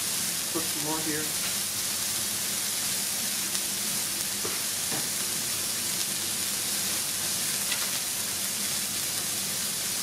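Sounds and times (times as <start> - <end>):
burger patties sizzling on griddle: 0.0 - 10.0.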